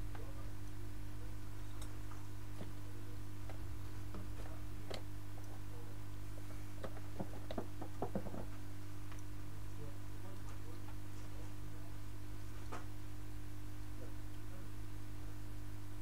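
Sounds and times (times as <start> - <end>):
equipment humming: 0.0 - 16.0.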